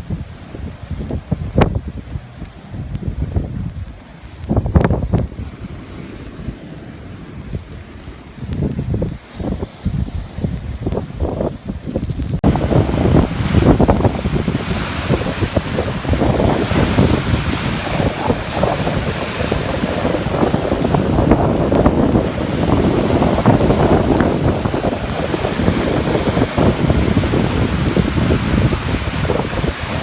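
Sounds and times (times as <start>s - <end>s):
waves washing: 0.0s - 30.0s
wind buffeting microphone: 0.0s - 30.0s.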